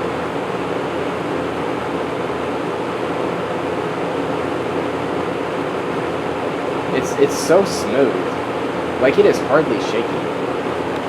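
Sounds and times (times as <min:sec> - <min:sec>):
faint low motor hum: 0:00.0 - 0:11.0.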